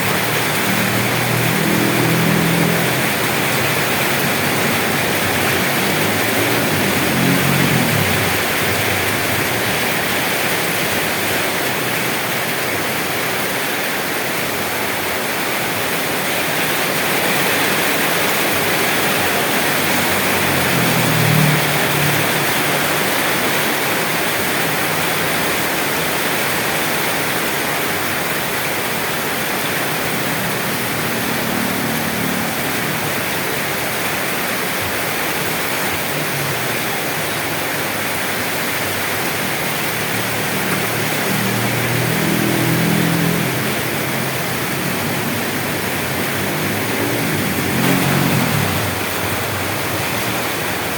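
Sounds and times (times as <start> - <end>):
heavy rain hissing: 0.0 - 50.9.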